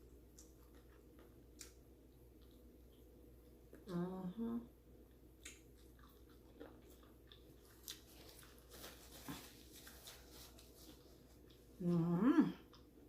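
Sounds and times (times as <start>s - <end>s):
close-up chewing: 0.0s - 3.9s, 5.0s - 13.0s.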